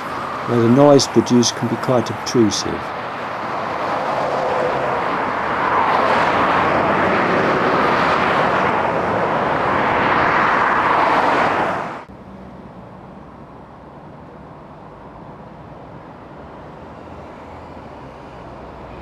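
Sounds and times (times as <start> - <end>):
road traffic passing at speed: 0.0 - 19.0.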